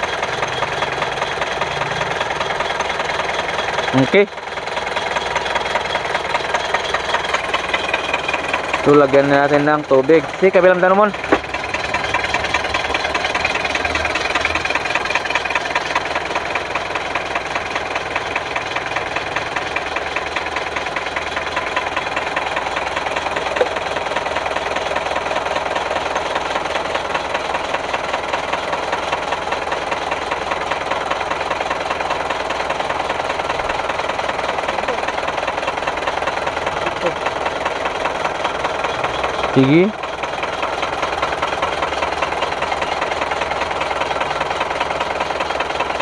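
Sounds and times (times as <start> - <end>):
diesel engine idling: 0.0 - 46.0.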